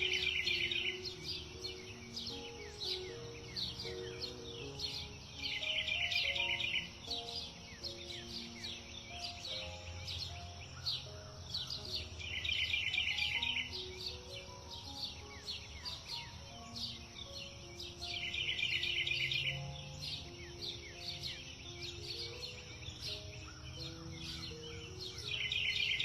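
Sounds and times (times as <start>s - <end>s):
soft music of held notes: 0.0s - 26.0s
songbirds chirping and singing: 0.0s - 26.0s.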